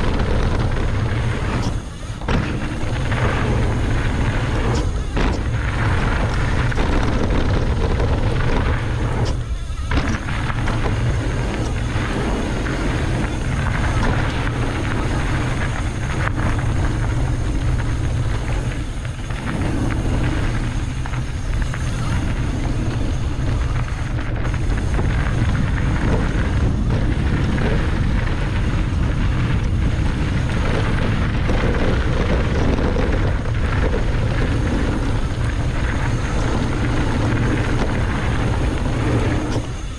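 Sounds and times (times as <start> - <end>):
bike tyres and frame rattling: 0.0 - 39.9
wind buffeting microphone: 0.0 - 39.9.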